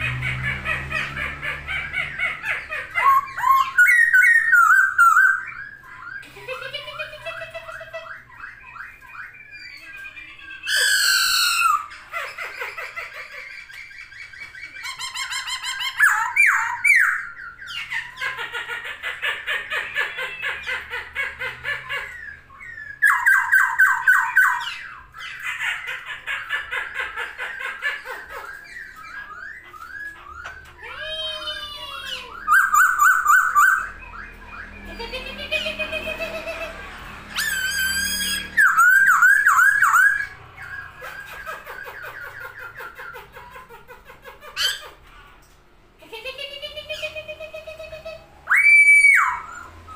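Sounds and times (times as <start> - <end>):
bird singing varied song: 0.0 - 43.8.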